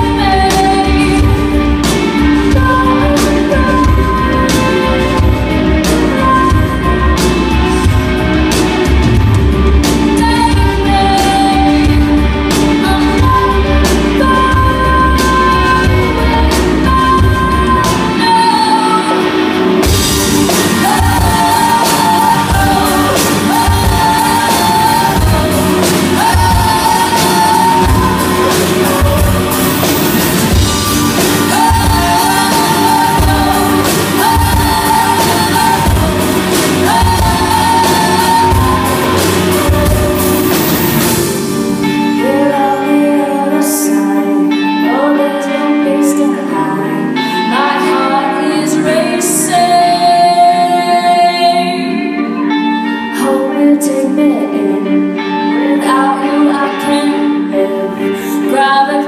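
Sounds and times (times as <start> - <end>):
live pop-rock band: 0.0 - 59.0
woman singing: 0.0 - 59.0.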